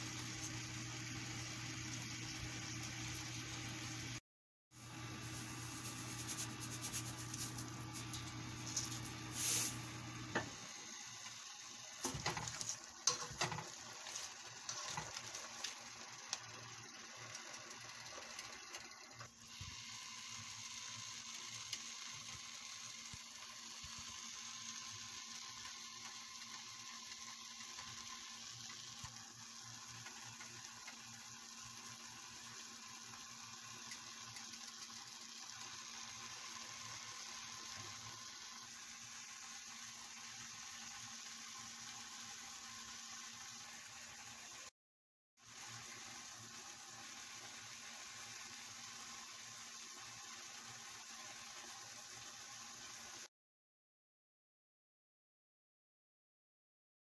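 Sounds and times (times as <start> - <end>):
food sizzling in a wok: 0.0 - 44.7, 45.4 - 53.3.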